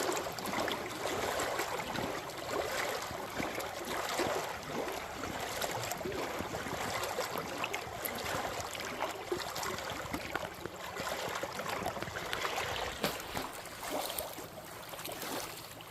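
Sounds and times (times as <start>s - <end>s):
lake waves lapping on shoreline: 0.0s - 15.9s.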